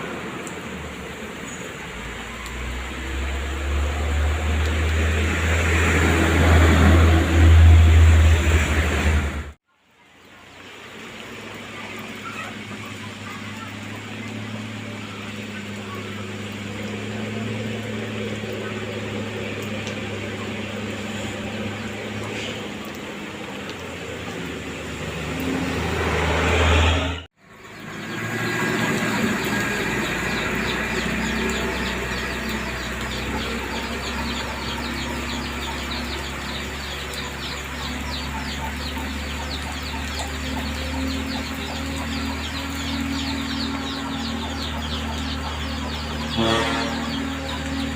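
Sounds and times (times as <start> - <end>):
engine humming: 0.0 - 47.9.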